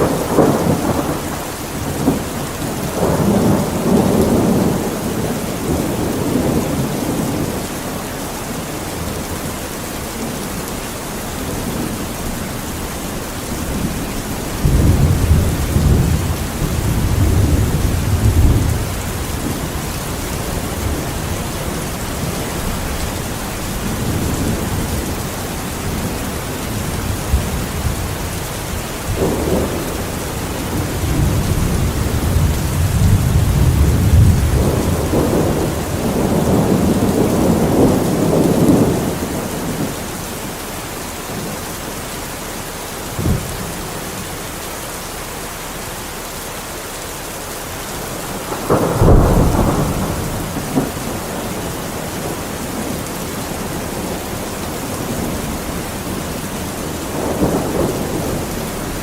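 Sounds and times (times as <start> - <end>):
thunder rumbling and cracking: 0.0 - 40.6, 43.0 - 44.1, 47.9 - 59.0
steady rain: 0.0 - 59.0.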